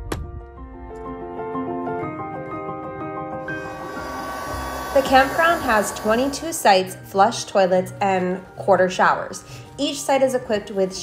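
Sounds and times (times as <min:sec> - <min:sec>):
soft slow background music: 0:00.0 - 0:11.0.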